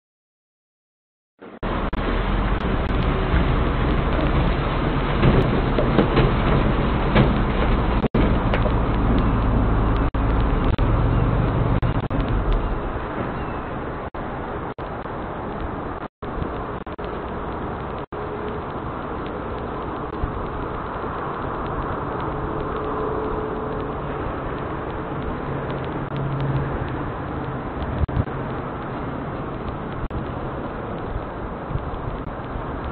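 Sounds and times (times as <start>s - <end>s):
low hum: 1.4s - 32.9s
truck engine rumbling: 1.4s - 32.9s.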